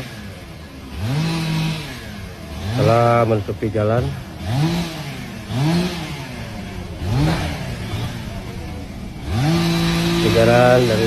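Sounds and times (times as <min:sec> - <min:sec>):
engine revving: 0:00.0 - 0:11.0.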